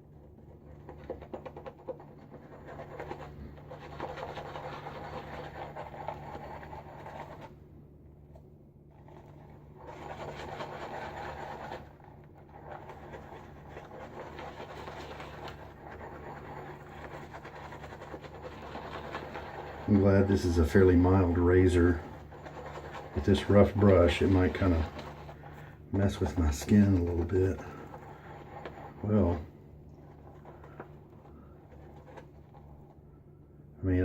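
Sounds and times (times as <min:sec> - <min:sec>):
shaving brush whipping lather: 0:00.0 - 0:07.6, 0:08.9 - 0:33.0.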